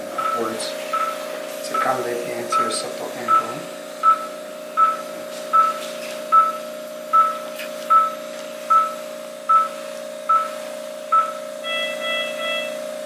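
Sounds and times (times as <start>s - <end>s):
steady low hum: 0.0s - 13.0s
patient monitor beeping: 0.1s - 12.9s.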